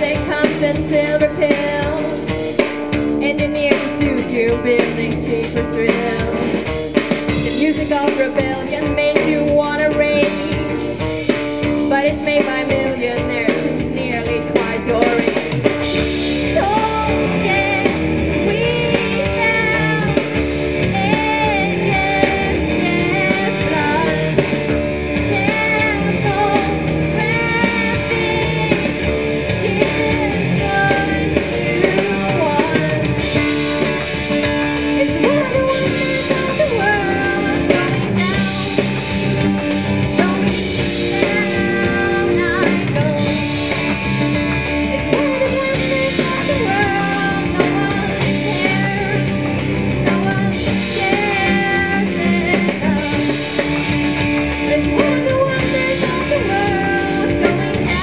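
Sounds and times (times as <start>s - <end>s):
gliding guitar lead line: 0.0s - 58.0s
rock band playing: 0.0s - 58.0s.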